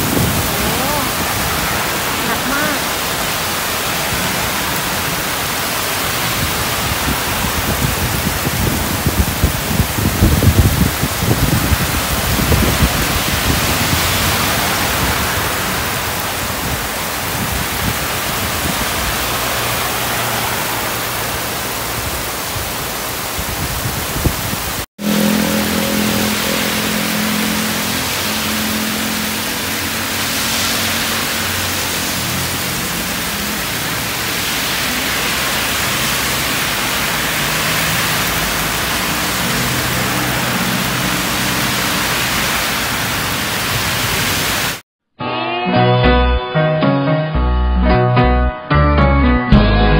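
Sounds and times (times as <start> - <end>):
car tyres through water: 0.0 - 44.8
heavy rain hissing on road: 0.0 - 44.8.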